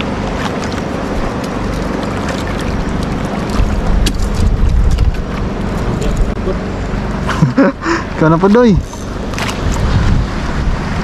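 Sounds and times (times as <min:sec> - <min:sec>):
wind buffeting microphone: 0:00.0 - 0:06.6, 0:08.1 - 0:11.0.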